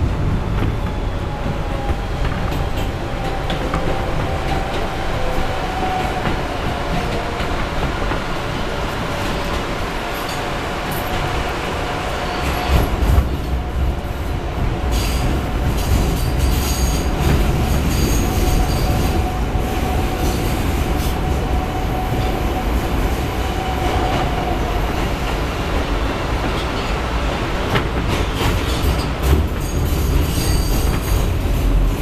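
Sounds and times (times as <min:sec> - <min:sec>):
subway wheels rumbling on rails: 0:00.0 - 0:32.0.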